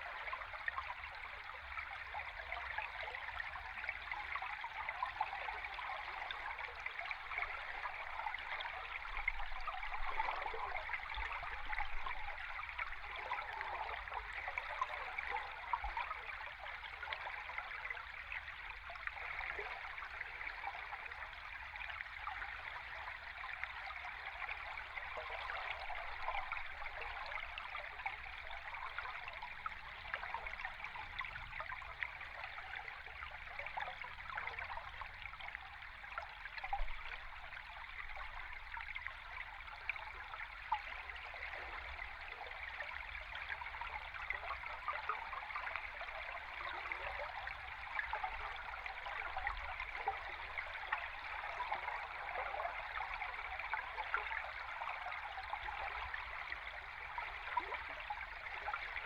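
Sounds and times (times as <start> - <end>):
underwater stream bubbling: 0.0 - 59.0.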